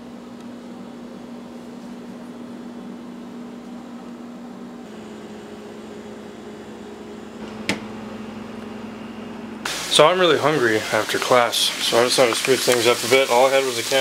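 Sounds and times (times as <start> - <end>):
electrical room hum: 0.0 - 14.0.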